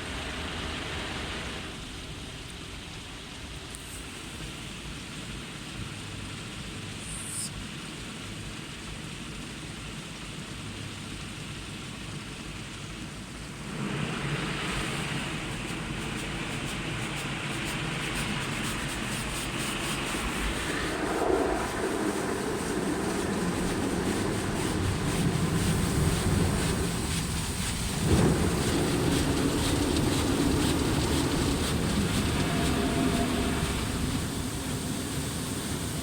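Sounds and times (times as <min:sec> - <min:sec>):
muffled car wash machine and water: 0:00.0 - 0:36.0.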